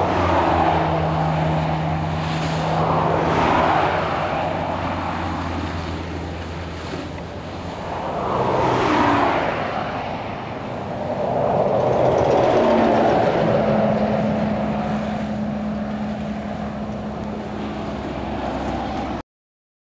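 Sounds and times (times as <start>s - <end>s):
engine hum: 0.0s - 19.2s
road vehicle rushing: 0.0s - 19.2s.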